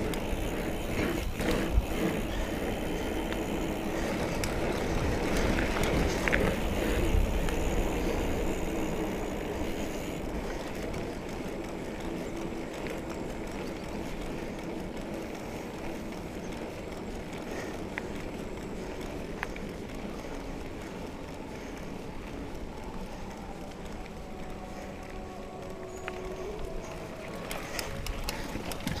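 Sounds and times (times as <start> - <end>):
bike tyres on dirt trail: 0.0 - 29.0
sharp bike clicks: 0.0 - 29.0.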